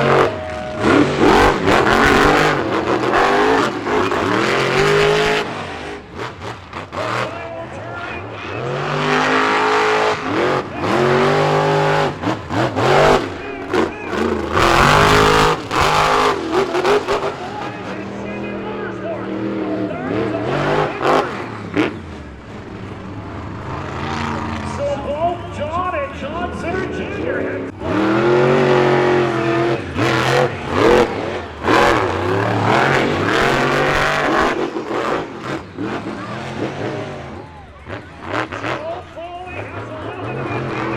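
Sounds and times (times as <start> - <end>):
monster truck engines revving: 0.0 - 40.9.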